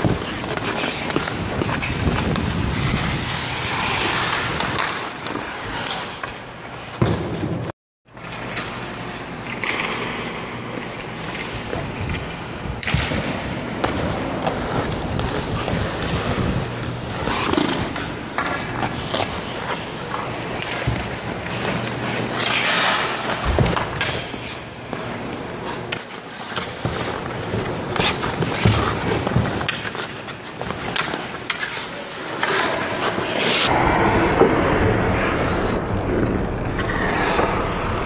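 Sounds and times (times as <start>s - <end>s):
hockey sticks and puck knocking: 0.0s - 33.7s
skates scraping ice: 0.0s - 33.8s.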